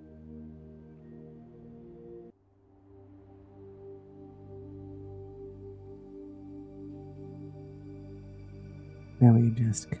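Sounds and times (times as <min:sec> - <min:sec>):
ambient drone music: 0:00.0 - 0:10.0.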